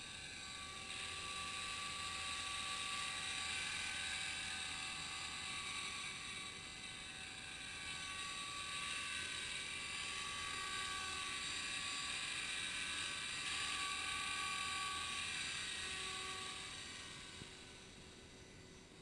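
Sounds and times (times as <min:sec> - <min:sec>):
model helicopter motor whine: 0:00.0 - 0:19.0.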